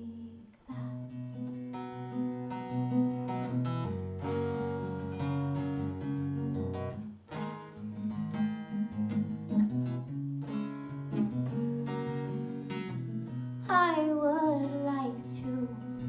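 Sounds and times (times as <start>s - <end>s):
acoustic guitar strumming chords: 0.9s - 16.0s.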